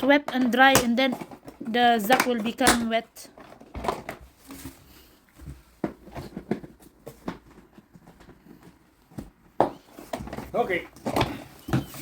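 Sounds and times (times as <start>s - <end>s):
plastic parts knocking and clicking: 0.0s - 4.6s, 5.4s - 12.0s.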